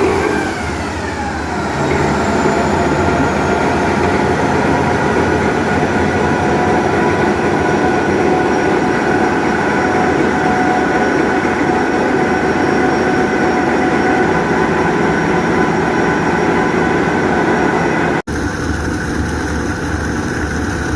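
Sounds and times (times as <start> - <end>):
steady whining tones: 0.0 - 20.6
marine diesel engine clattering: 0.0 - 20.9.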